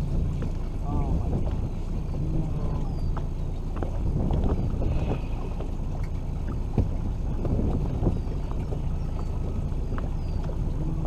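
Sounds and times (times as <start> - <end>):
choppy water: 0.0 - 11.0
wind rumbling on microphone: 0.0 - 11.0.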